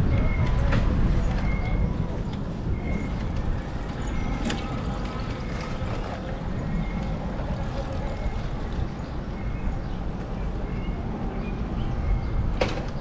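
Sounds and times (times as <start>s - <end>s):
bicycle tyres rolling on path: 0.0s - 11.2s.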